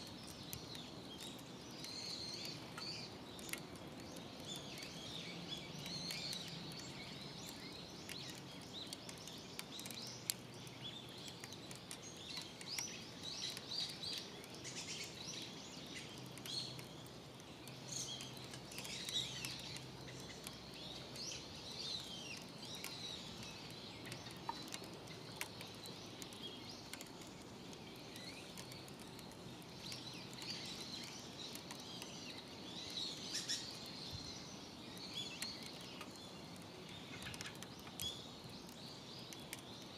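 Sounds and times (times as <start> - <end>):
faint clicks: 0.0 - 39.9
small birds chirping: 0.0 - 39.9.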